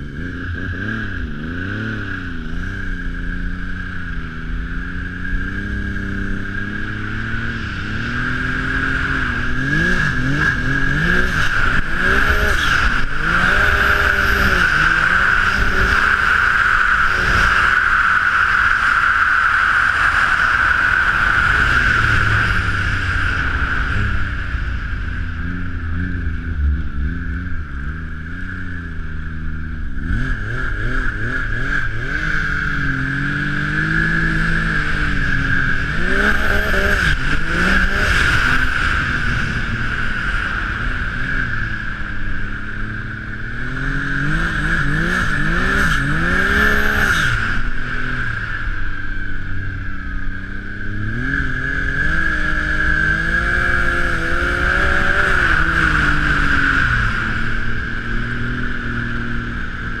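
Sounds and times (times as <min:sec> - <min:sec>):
snowmobile engine revving: 0:00.0 - 1:00.0
steady high whine: 0:00.0 - 1:00.0.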